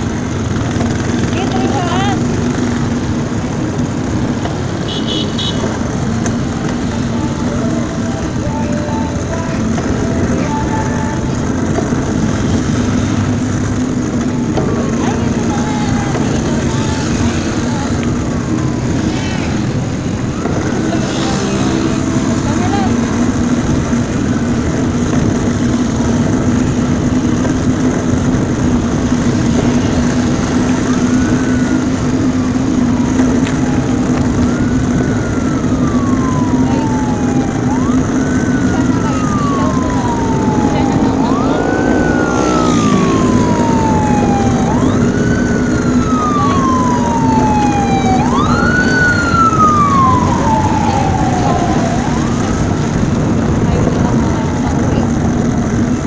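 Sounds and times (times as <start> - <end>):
emergency siren wailing: 0.0 - 56.0
street traffic: 0.0 - 56.0
vehicle engine humming: 0.0 - 56.0.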